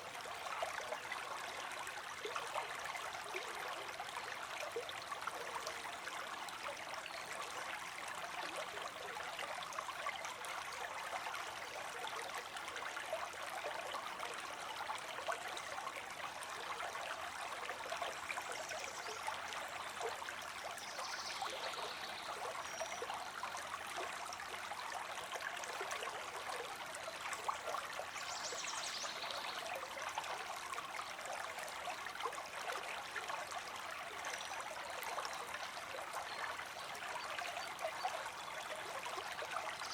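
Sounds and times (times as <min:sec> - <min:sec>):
creek water streaming: 0:00.0 - 0:39.9.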